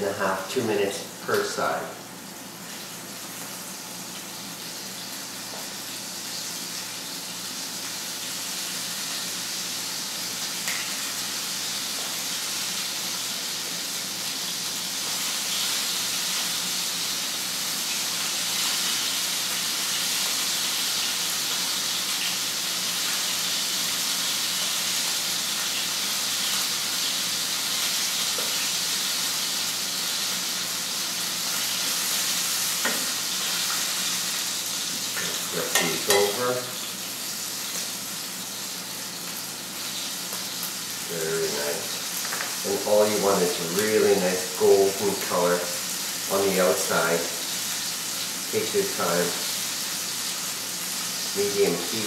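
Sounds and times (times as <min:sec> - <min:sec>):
chicken sizzling in a frying pan: 0:00.0 - 0:52.0.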